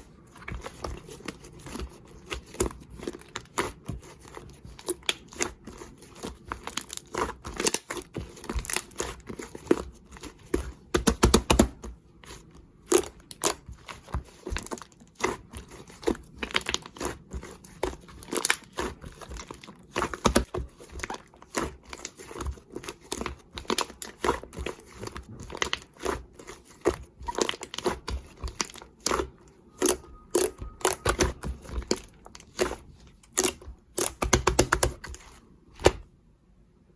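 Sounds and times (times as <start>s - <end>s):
slime squished by hand: 0.6s - 36.0s.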